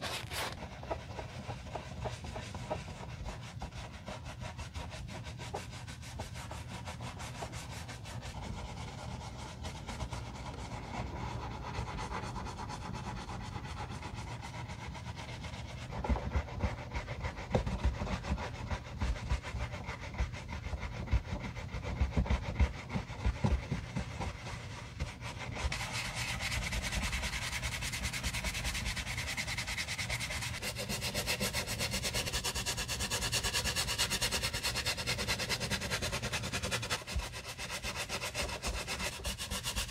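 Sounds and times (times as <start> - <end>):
brush scrubbing a sneaker: 0.0 - 39.9.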